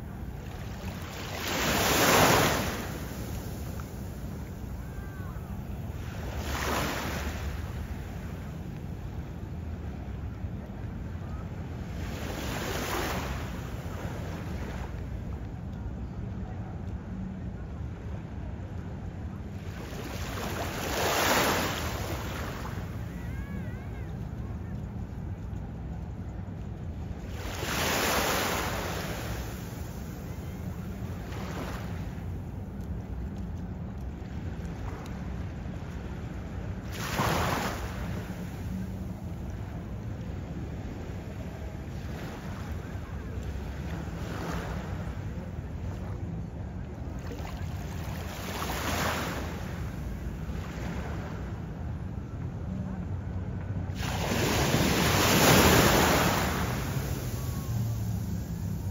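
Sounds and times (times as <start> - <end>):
low rumble of sea: 0.0 - 58.9
waves washing onto beach: 0.0 - 58.9.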